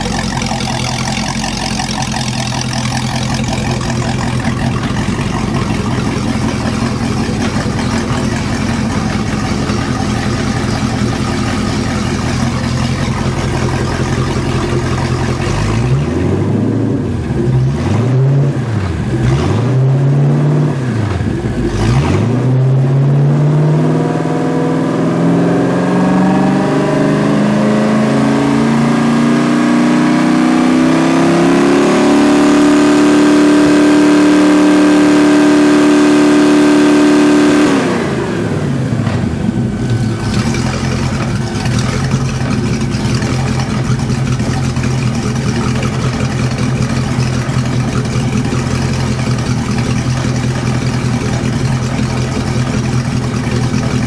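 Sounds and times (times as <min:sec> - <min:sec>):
boat engine revving: 0:00.0 - 0:54.0.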